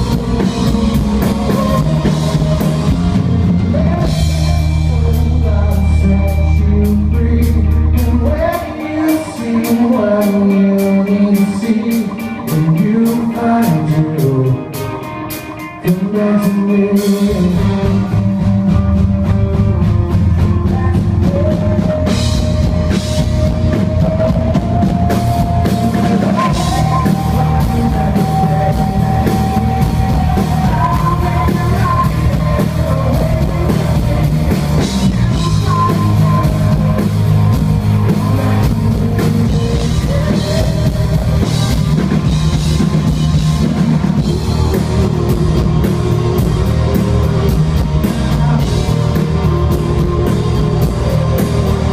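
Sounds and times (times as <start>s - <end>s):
drum kit: 0.0s - 51.9s
electric guitar lead line: 0.0s - 51.9s
live rock band playing: 0.0s - 51.9s.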